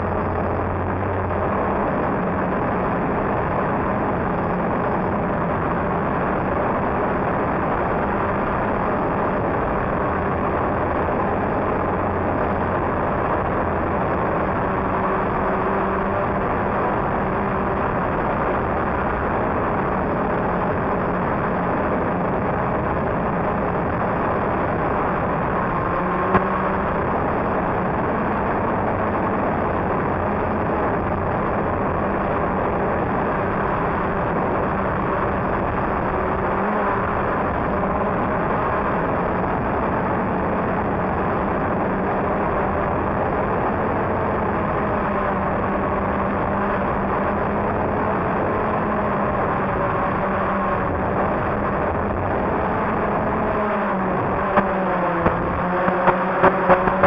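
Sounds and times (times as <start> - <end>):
drone propellers droning: 0.0 - 57.0.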